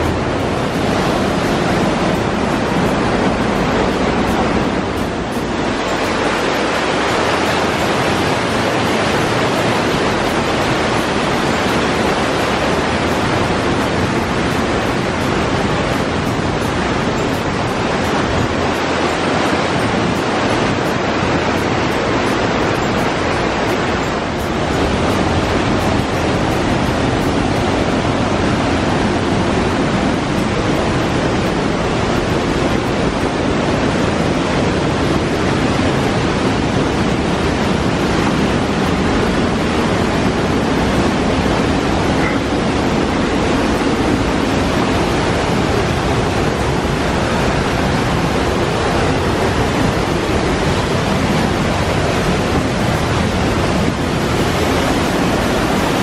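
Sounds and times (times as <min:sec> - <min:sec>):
white water rushing: 0:00.0 - 0:56.0.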